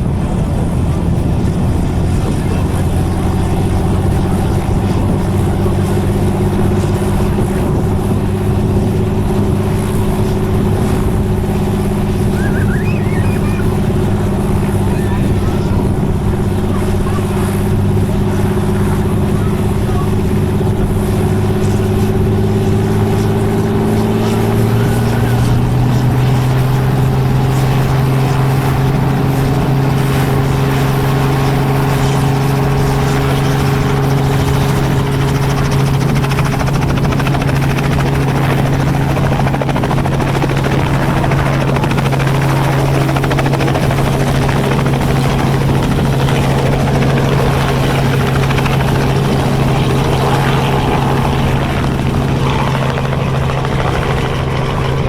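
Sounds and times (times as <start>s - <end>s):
helicopter running: 0.0s - 55.0s.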